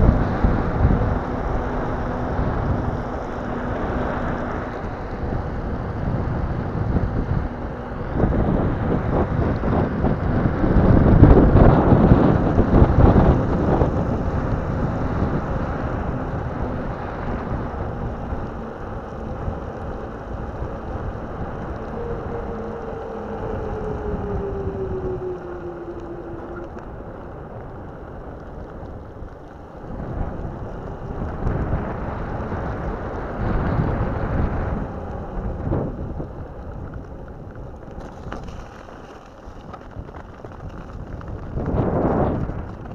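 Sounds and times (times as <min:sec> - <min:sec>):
faint whine dropping in pitch: 0:00.0 - 0:39.8
wind buffeting microphone: 0:00.0 - 0:42.9.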